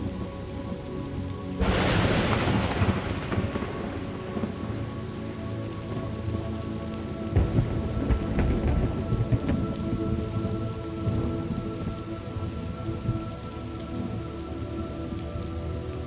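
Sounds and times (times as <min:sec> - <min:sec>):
steady rain: 0:00.0 - 0:16.0
thunder rumbling: 0:01.6 - 0:15.4.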